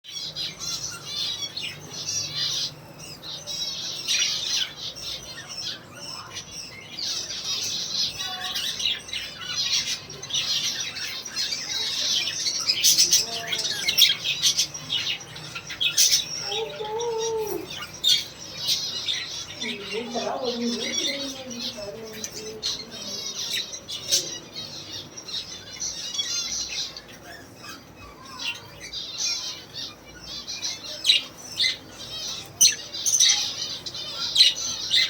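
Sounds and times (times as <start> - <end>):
budgerigars chattering: 0.1 - 35.0.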